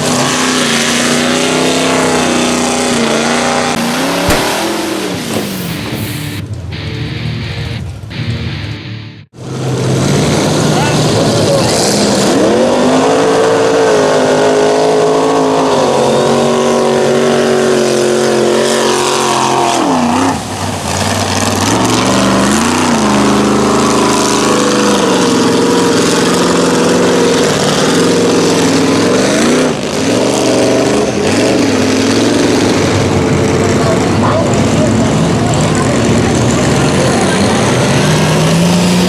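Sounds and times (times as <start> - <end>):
truck engine at high revs: 0.0 - 39.0.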